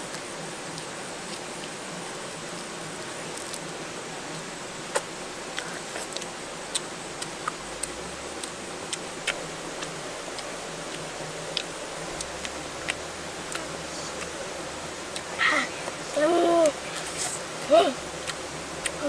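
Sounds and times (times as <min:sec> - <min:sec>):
background hiss: 0:00.0 - 0:19.0
sharp eating clicks: 0:00.0 - 0:19.0.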